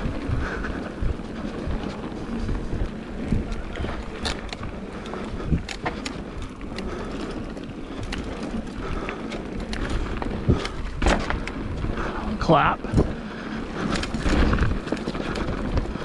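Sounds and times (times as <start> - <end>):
bike knocks and rattles: 0.0 - 16.0
tyre and wind noise: 0.0 - 16.0.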